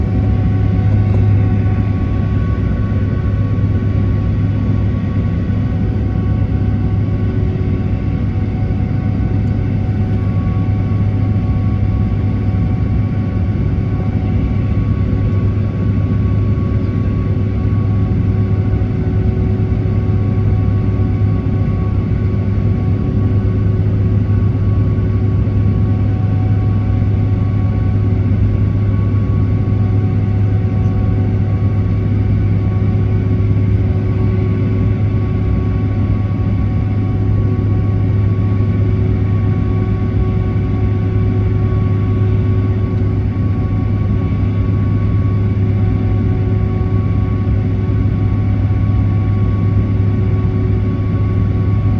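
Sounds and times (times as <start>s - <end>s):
aircraft engines humming: 0.0s - 51.9s
steady whining tones: 0.0s - 51.9s.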